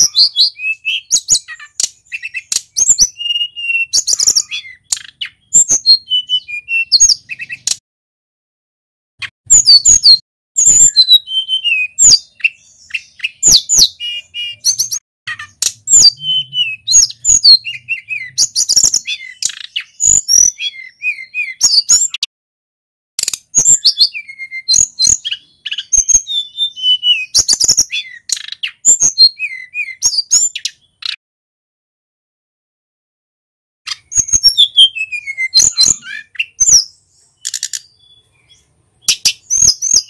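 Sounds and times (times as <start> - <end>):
bird singing whistled trills: 0.0 - 7.8, 9.5 - 22.3, 23.2 - 31.2, 33.9 - 40.0.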